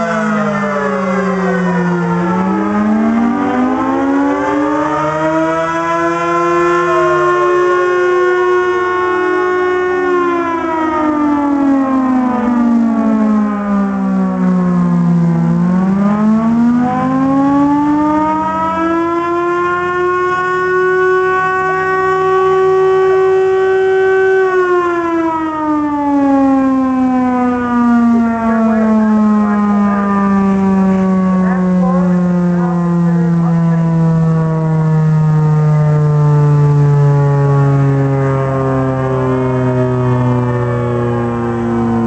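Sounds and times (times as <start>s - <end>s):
air-raid siren wailing: 0.0s - 42.0s.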